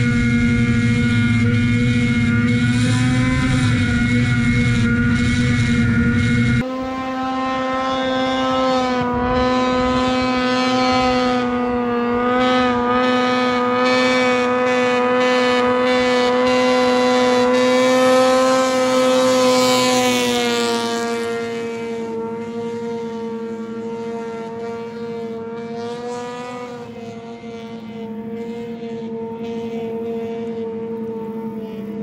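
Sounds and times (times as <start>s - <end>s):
snowmobile engine high-revving: 0.0s - 32.0s.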